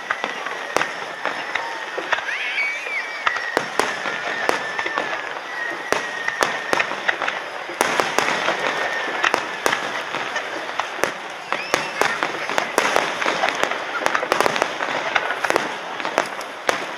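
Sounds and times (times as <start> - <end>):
fireworks bursting: 0.0 - 16.9.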